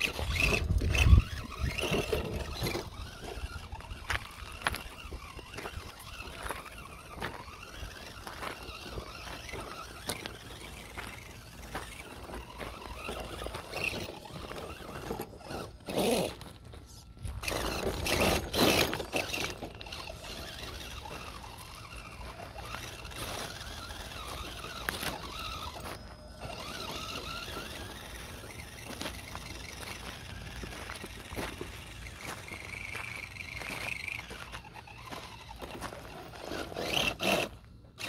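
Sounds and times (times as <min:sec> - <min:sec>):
stones grinding: 0:00.0 - 0:37.8
electric motor whining through gears: 0:00.0 - 0:38.0
tyres scraping on rocks: 0:00.0 - 0:38.0.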